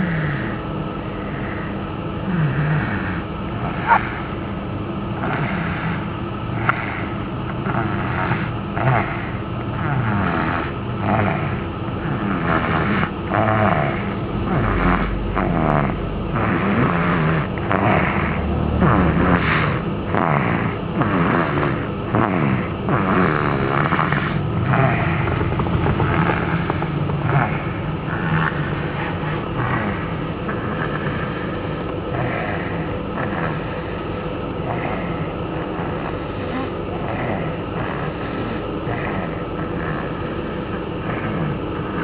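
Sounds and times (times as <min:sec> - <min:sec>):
loud snoring: 0:00.0 - 0:04.4, 0:05.2 - 0:42.0.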